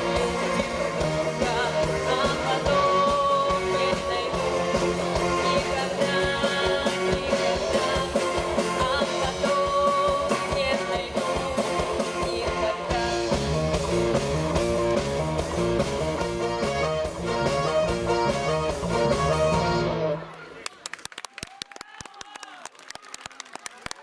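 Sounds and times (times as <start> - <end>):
pop instrumental with steady beat: 0.0 - 20.3.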